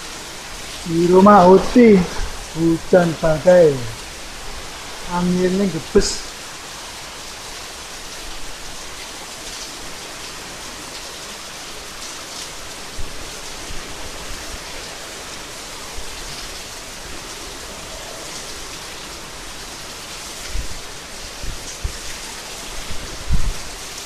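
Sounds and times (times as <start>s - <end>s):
heavy rain pouring: 0.0s - 24.0s
wind: 0.0s - 24.0s.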